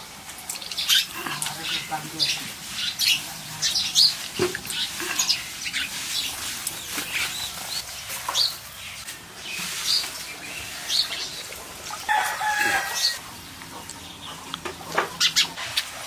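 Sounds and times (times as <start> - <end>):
birds chirping: 0.4 - 16.0.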